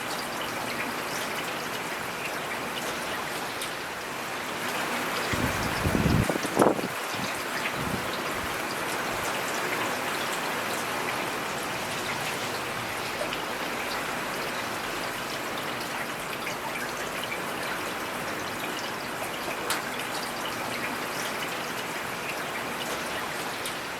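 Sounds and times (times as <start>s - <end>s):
rain falling: 0.0s - 23.9s
raindrops pattering on surfaces: 0.0s - 23.9s.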